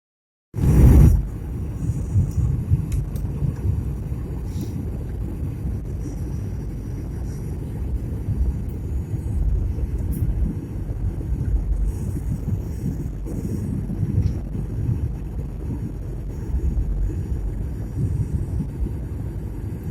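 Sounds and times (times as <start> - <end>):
airliner cabin engine rumble: 0.6 - 19.9.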